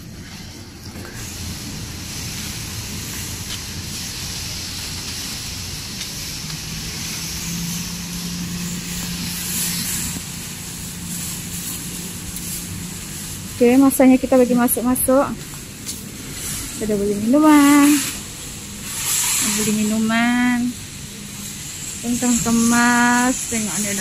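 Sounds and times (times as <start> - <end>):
background hiss: 0.0 - 24.0
plastic bags rustling: 0.0 - 24.0.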